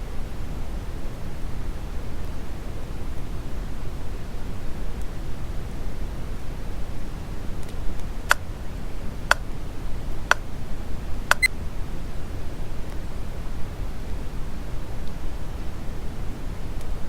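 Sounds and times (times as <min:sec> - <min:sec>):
steady brown noise: 0:00.0 - 0:17.0.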